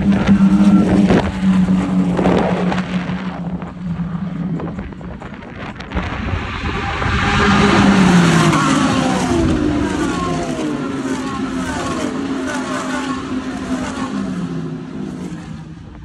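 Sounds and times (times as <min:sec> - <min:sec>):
race cars passing at speed: 0:00.0 - 0:16.0.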